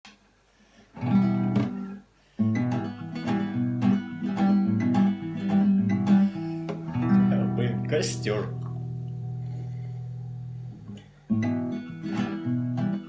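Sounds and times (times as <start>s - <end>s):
acoustic guitar strumming: 1.0s - 13.0s.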